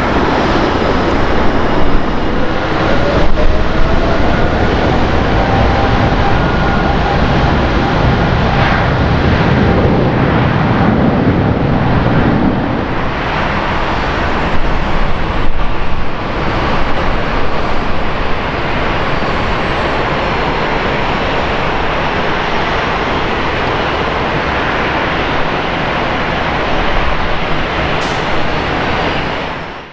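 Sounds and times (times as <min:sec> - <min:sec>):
jet airliner engines: 0:00.0 - 0:29.9.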